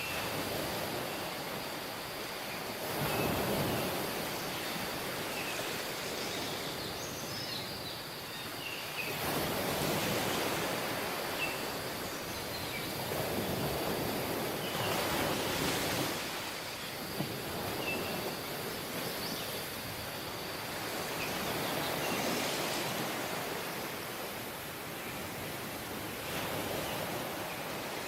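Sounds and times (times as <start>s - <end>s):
waves washing onto beach: 0.0s - 28.0s.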